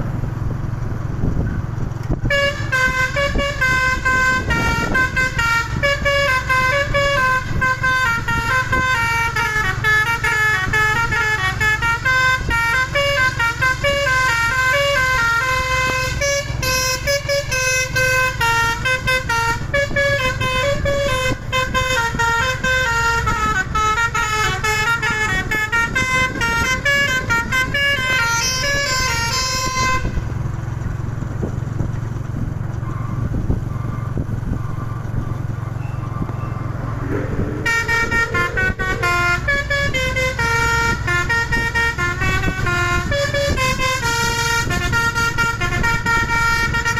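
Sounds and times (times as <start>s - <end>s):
truck engine rumble: 0.0s - 46.9s
musical truck horn tune: 2.2s - 30.3s, 34.6s - 46.9s.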